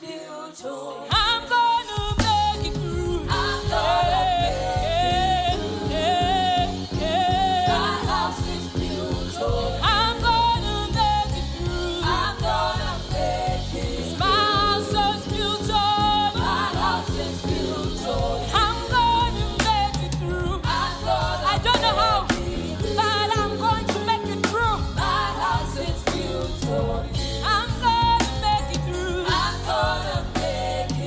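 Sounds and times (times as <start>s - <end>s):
band playing gospel music: 0.9s - 31.0s.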